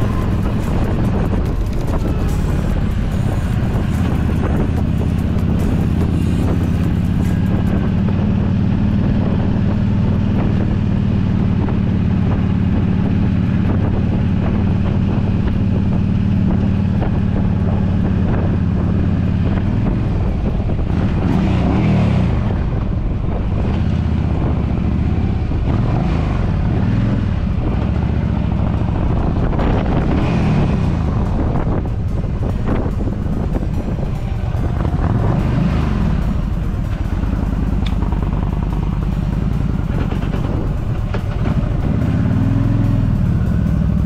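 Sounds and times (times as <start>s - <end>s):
motorcycle engine running: 0.0s - 44.0s
wind on microphone: 0.0s - 44.0s.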